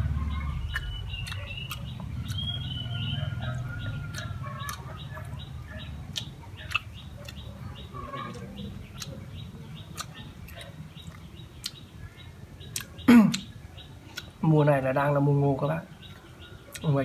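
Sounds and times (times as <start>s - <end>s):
quick rhythmic chirping: 0.0s - 14.5s.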